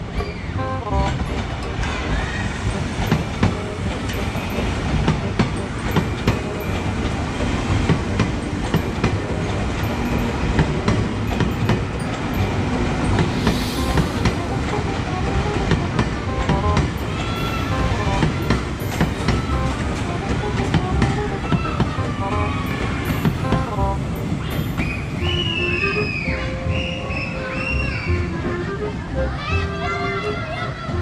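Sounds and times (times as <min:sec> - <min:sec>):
wheels clacking over rail joints: 0:00.0 - 0:25.5
electric train rumbling past: 0:00.0 - 0:29.1.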